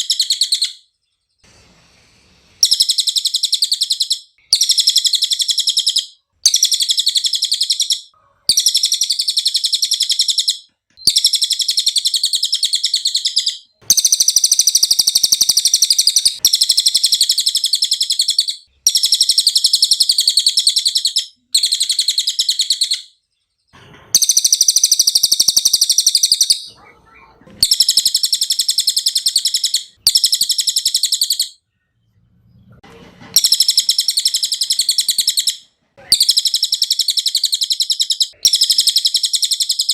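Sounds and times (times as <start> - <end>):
songbird chirping trills: 0.0 - 1.5, 2.6 - 32.8, 33.4 - 39.9.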